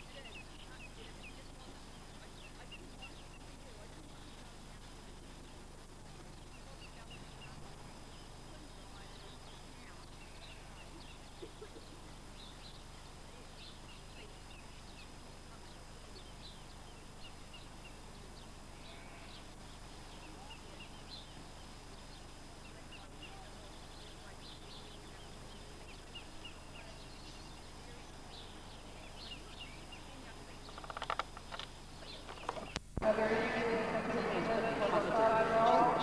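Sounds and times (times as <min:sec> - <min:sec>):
small birds chirping: 0:00.0 - 0:36.0
steady low hum: 0:00.0 - 0:36.0.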